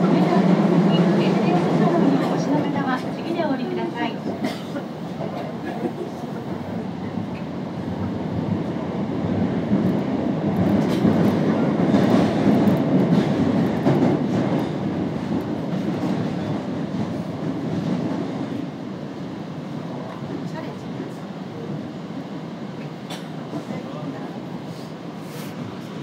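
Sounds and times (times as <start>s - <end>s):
subway car rumble: 0.0s - 26.0s.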